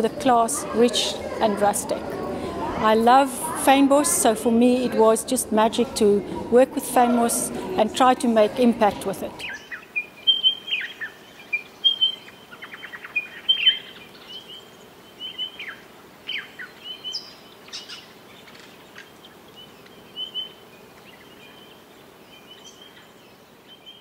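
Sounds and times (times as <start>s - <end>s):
faint background noise: 0.0s - 24.0s
songbirds chirping: 0.0s - 24.0s.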